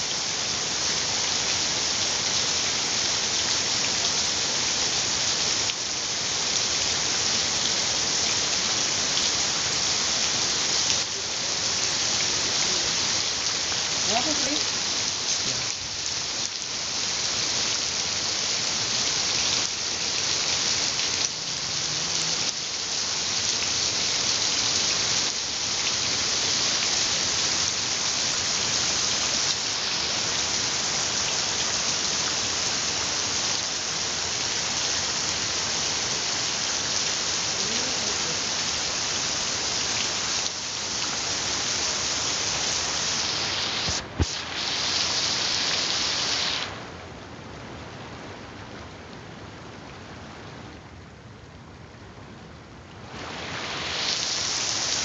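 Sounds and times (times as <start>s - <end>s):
heavy rain on water and concrete: 0.0s - 55.0s.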